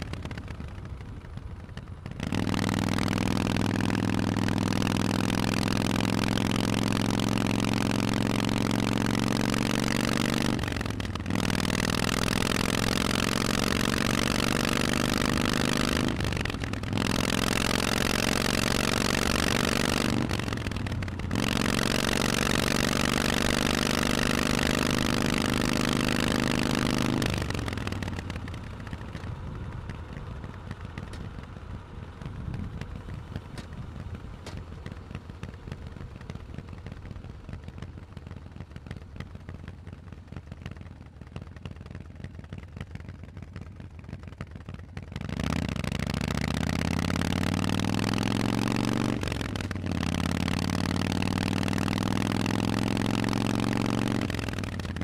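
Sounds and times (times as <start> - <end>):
motorcycle accelerating through gears: 0.0 - 55.0.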